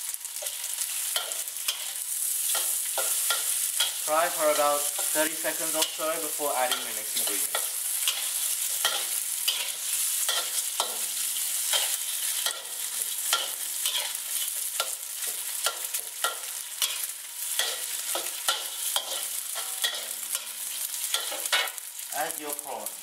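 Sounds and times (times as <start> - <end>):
food sizzling in hot oil: 0.0 - 23.0
metal spatula scraping a wok: 0.3 - 4.1, 4.8 - 21.8.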